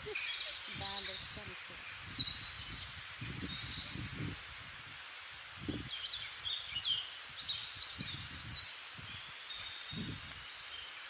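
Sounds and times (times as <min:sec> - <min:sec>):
small birds chirping: 0:00.0 - 0:11.0
steady outdoor hiss: 0:00.0 - 0:11.0.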